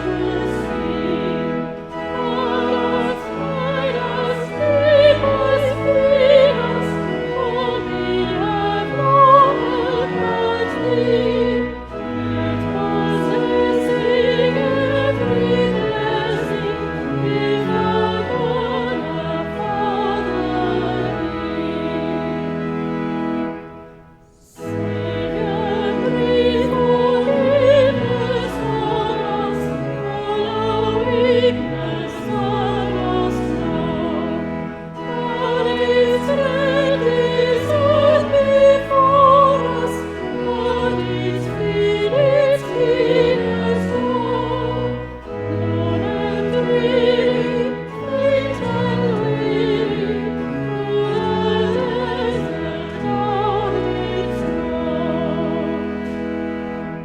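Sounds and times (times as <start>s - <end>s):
low accompaniment chords: 0.0s - 57.0s.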